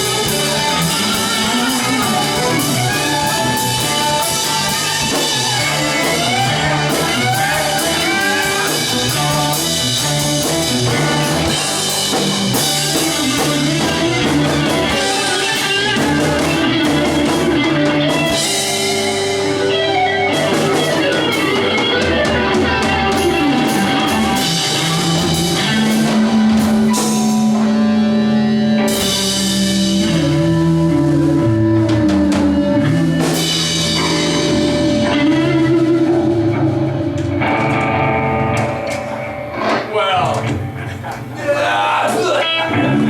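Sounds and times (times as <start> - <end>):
drum kit playing: 0.0 - 41.8
bass guitar: 0.0 - 43.0
electric guitar: 0.0 - 43.0.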